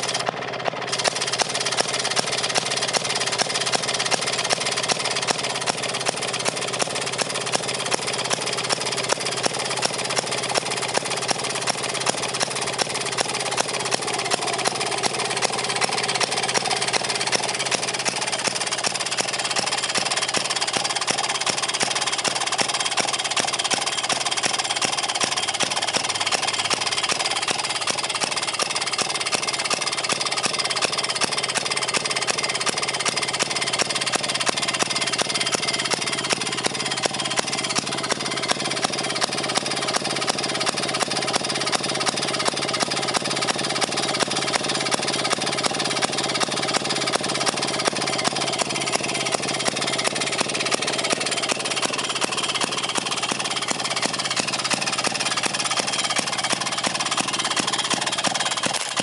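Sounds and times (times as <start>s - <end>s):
two-stroke engine running: 0.0s - 59.0s.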